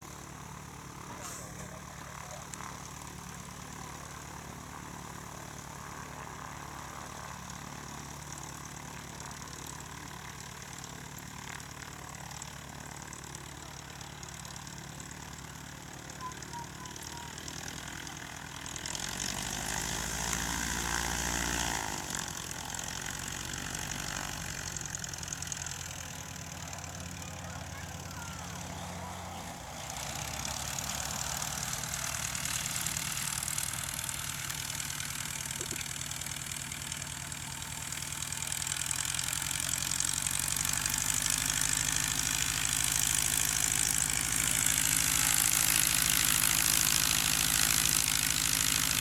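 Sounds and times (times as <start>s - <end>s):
light aircraft engine droning: 0.0s - 49.0s.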